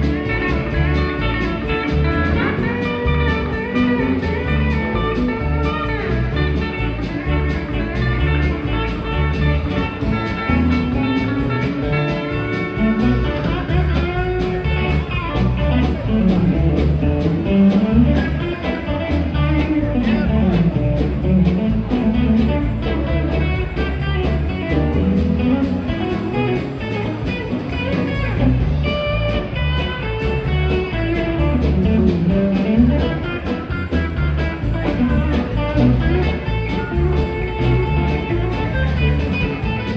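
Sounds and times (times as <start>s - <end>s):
guitar lead: 0.0s - 39.9s
rhythmic bass line: 0.0s - 39.9s.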